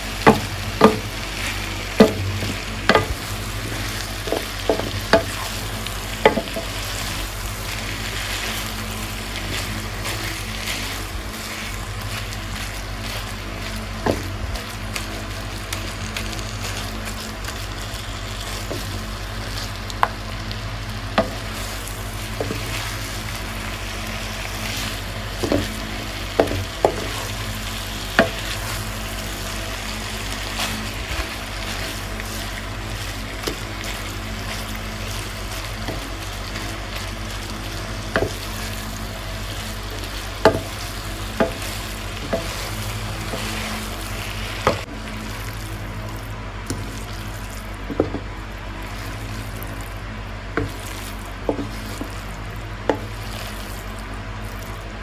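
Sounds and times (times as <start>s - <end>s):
fish sizzling in a hot pan: 0.0s - 48.1s, 48.7s - 54.8s
steady low hum: 0.0s - 55.0s.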